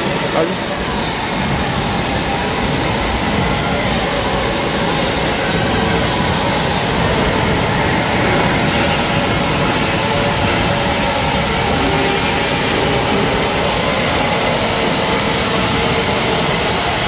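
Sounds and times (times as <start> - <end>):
machinery roar: 0.0 - 17.0.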